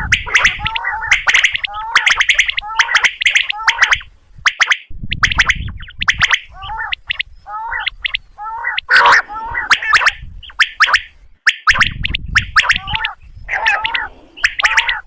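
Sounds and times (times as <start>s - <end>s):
quail calling: 0.0s - 15.0s.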